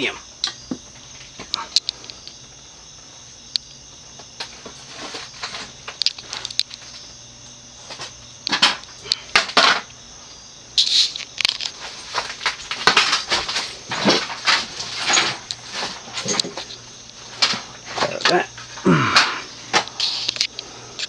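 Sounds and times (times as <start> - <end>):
ceiling fan motor hum: 0.0 - 21.0.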